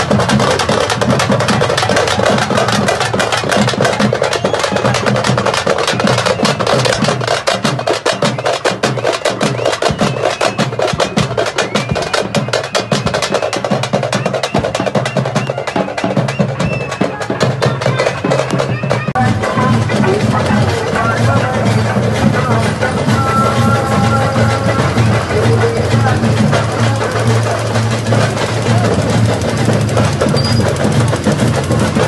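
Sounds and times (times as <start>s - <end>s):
fast loud drumming: 0.0s - 32.0s.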